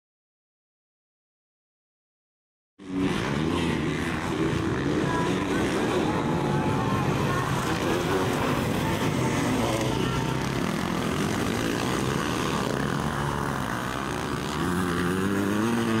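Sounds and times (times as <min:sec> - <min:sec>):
motocross bike engines revving: 0:02.8 - 0:16.0.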